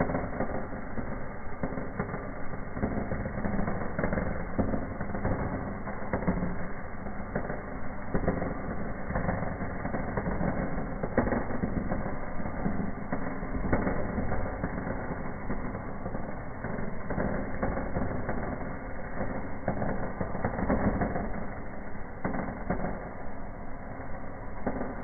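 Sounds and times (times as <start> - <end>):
firework crackling in fireplace: 0.0 - 25.0.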